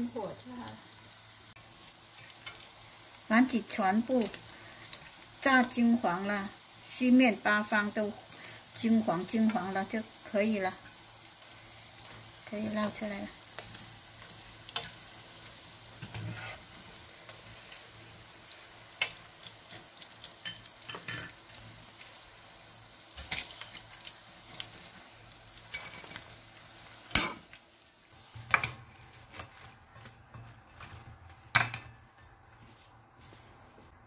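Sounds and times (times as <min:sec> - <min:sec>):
oil sizzling: 0:00.0 - 0:34.0.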